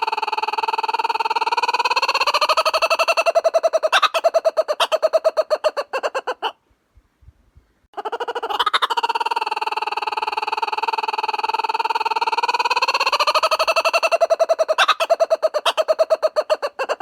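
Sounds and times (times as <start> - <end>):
kookaburra laughing call: 0.0 - 6.6, 7.9 - 17.0.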